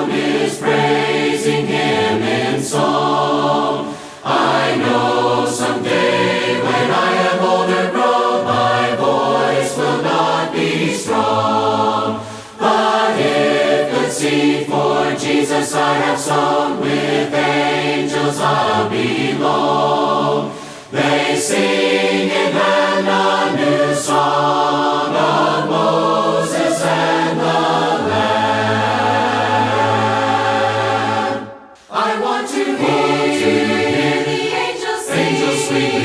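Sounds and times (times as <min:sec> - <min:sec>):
unaccompanied choir singing a hymn: 0:00.0 - 0:36.0.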